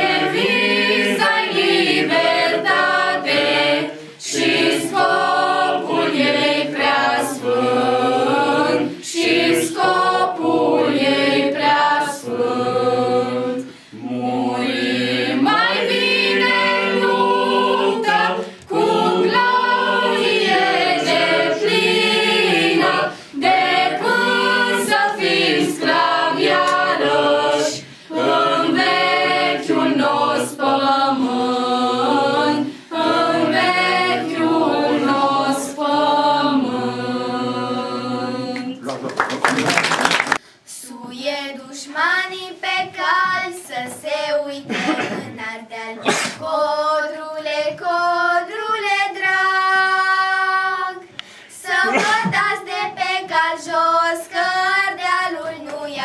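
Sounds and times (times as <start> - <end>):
girls choir singing a cappella: 0.0 - 38.9, 40.6 - 56.0.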